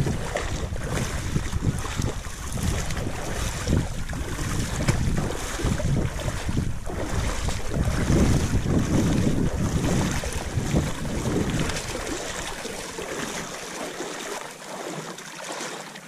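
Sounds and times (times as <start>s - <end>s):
wind buffeting microphone: 0.0s - 14.0s
water splashing around legs: 0.0s - 16.0s.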